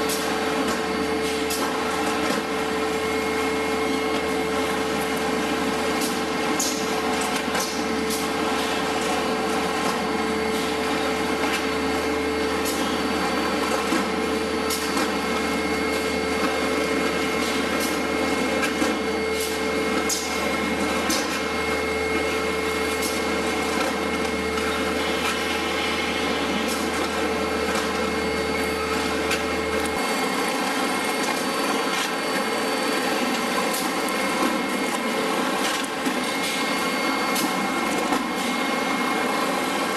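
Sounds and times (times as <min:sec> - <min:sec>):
machine mechanical hum: 0:00.0 - 0:39.9
machine whine: 0:00.0 - 0:39.9.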